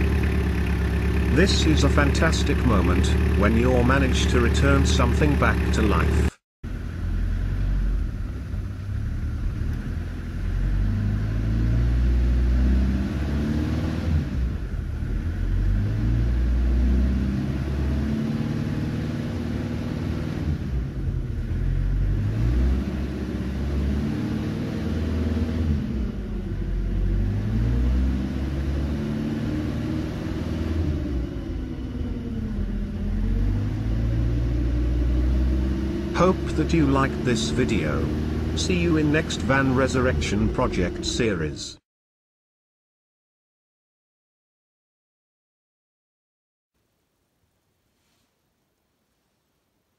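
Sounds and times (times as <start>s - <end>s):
diesel van engine driving: 0.0s - 41.8s.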